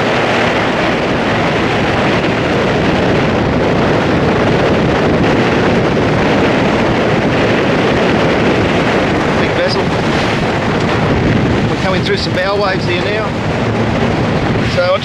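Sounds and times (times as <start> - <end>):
powerboat rushing: 0.0 - 15.0
wind buffeting microphone: 0.0 - 15.0.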